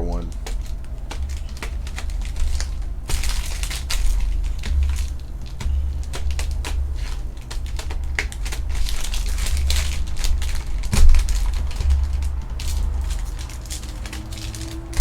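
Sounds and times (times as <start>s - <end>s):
foil wrappers crinkling: 0.1s - 15.0s
cards clicking and rustling: 0.2s - 15.0s.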